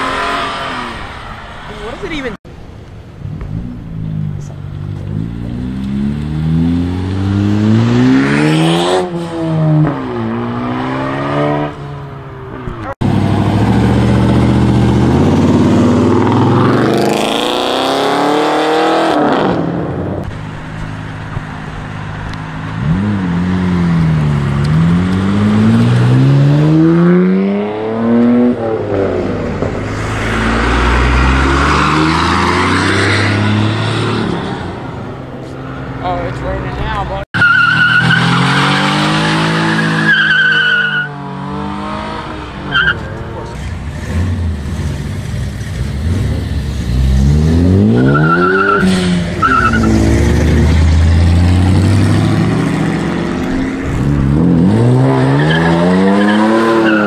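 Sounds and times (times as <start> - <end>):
cars accelerating hard: 3.2 - 20.3, 21.2 - 57.0.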